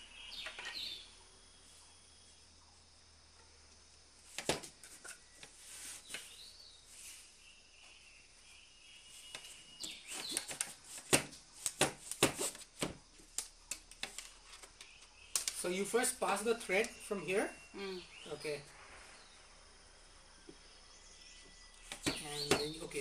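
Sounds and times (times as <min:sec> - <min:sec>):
birds chirping: 0:00.0 - 0:03.8, 0:04.7 - 0:10.8, 0:12.9 - 0:23.0.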